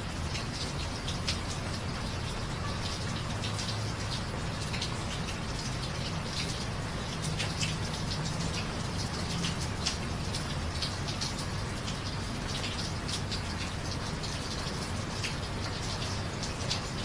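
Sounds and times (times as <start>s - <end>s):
rain pattering on a street: 0.0s - 17.0s.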